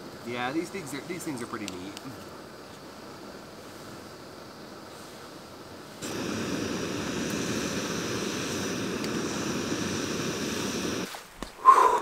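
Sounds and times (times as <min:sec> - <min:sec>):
gas stove burning with hiss: 0:00.0 - 0:12.0.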